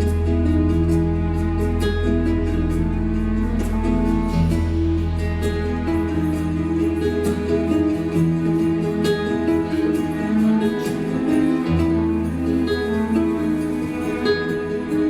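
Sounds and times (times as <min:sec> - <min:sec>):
sustained bass notes: 0:00.0 - 0:14.3
plucked guitar notes: 0:00.0 - 0:15.0.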